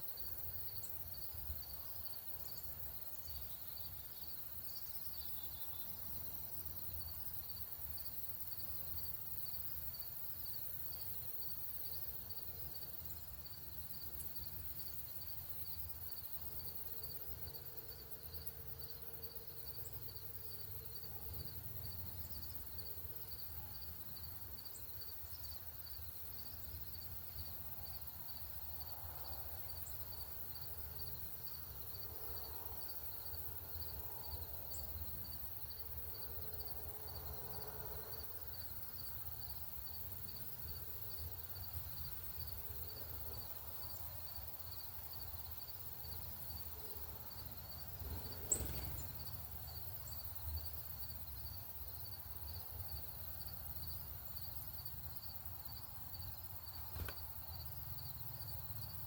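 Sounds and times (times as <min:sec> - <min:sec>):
insect chirping: 0:00.0 - 0:59.0.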